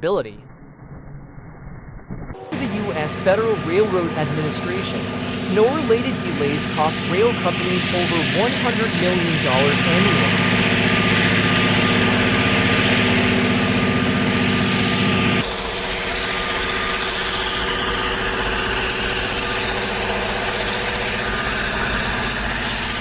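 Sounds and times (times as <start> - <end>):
rail machinery engine running: 2.4 - 23.0.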